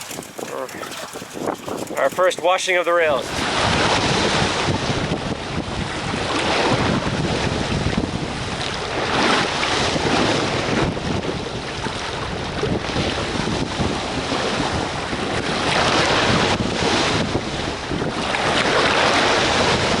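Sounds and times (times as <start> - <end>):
water rushing along a hull: 0.0 - 20.0
wind buffeting microphone: 0.0 - 20.0.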